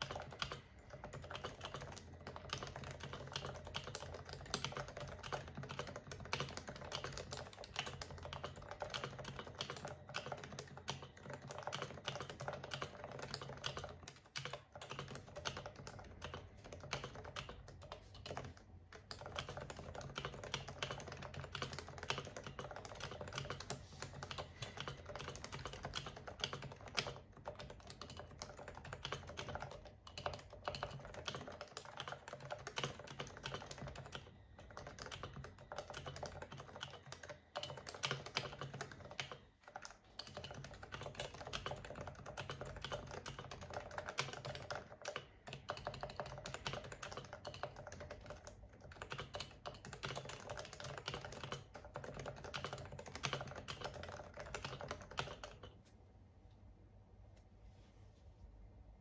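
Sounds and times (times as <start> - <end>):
fast typing on keyboard: 0.0 - 55.8.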